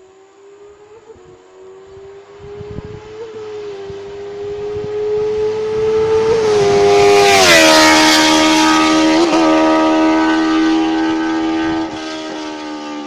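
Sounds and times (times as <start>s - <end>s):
motorcycle engine wailing: 0.3s - 12.7s.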